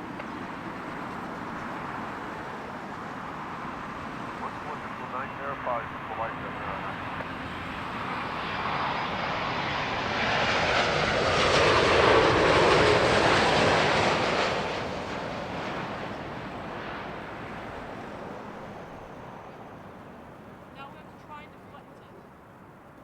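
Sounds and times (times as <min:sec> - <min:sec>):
jet airliner passing overhead: 0:00.0 - 0:23.0.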